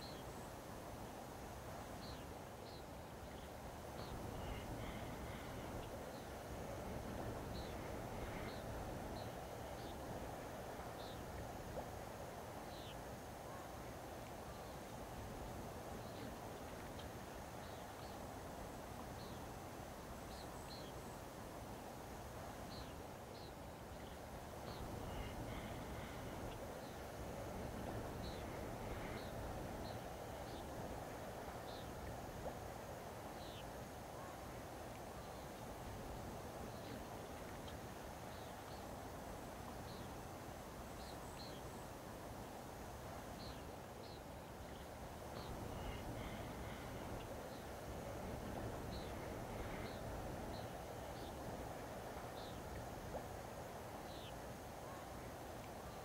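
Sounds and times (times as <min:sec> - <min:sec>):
calm water and air wash: 0:00.0 - 0:56.0.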